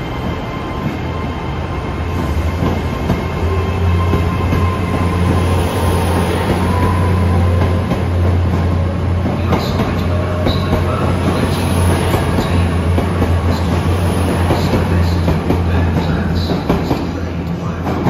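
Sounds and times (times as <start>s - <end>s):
wheel and rail noise: 0.0s - 18.0s.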